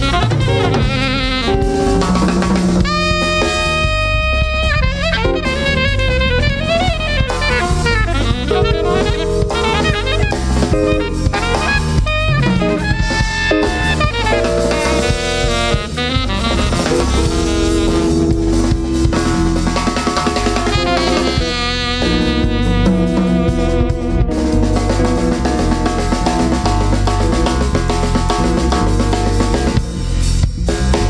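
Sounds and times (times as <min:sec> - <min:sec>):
saxophone melody: 0:00.0 - 0:30.0
drum kit: 0:00.0 - 0:31.0
electric bass: 0:00.0 - 0:31.0.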